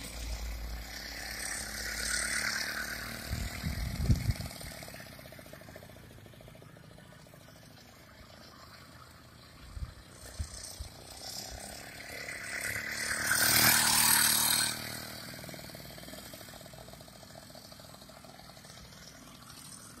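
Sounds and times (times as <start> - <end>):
moped engine passing: 0.0 - 20.0.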